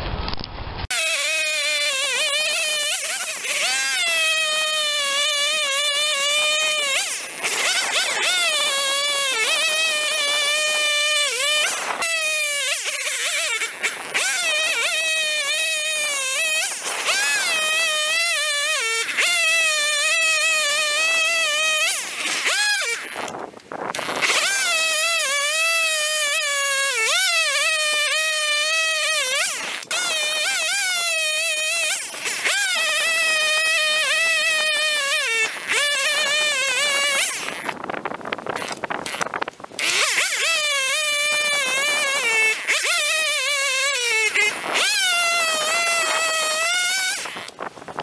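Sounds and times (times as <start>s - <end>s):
chainsaw cutting logs: 0.8s - 48.0s.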